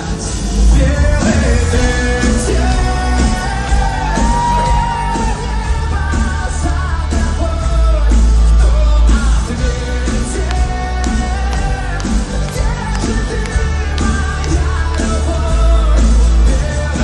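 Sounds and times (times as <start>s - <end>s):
live pop-rock band: 0.0s - 17.0s
man singing long notes: 0.0s - 17.0s.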